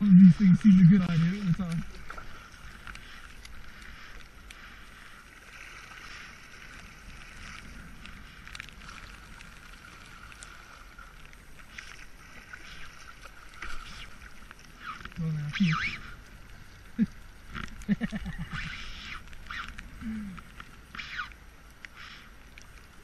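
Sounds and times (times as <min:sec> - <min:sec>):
water lapping against kayak: 0:00.0 - 0:23.0
paddle splashes: 0:00.4 - 0:23.0.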